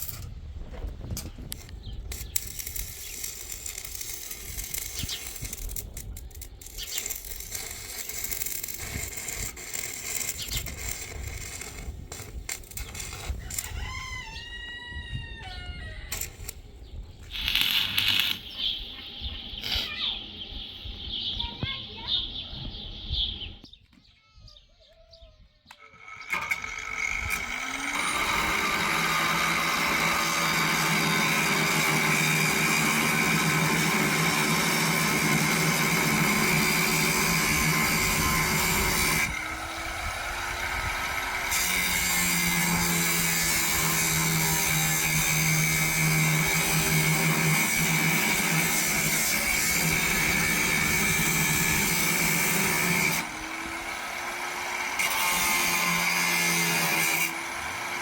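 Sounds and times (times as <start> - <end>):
power tool motor whining: 1.5 - 14.5, 17.2 - 18.6, 25.7 - 58.0.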